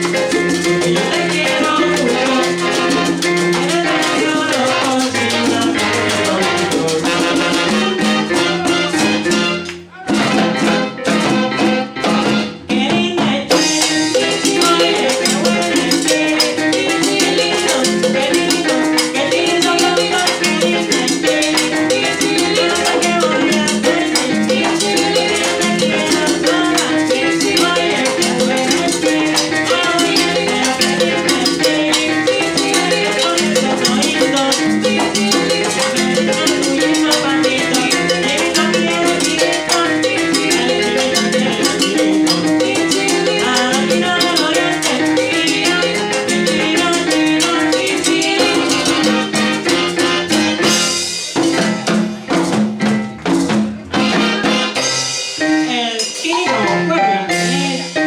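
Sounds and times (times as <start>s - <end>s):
live salsa band playing: 0.0s - 58.0s.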